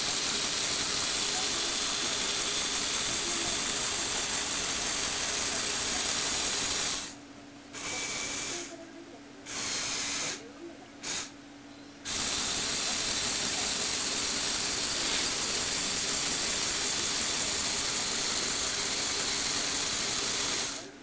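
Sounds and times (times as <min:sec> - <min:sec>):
toy motor and plastic gears running: 0:00.0 - 0:07.2, 0:07.8 - 0:08.8, 0:09.5 - 0:10.4, 0:11.0 - 0:11.3, 0:12.0 - 0:21.0.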